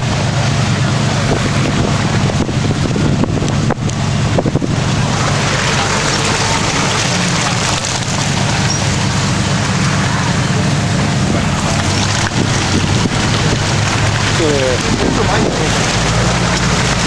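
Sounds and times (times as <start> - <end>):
truck engine running: 0.0 - 17.0
wind on microphone: 0.0 - 17.0.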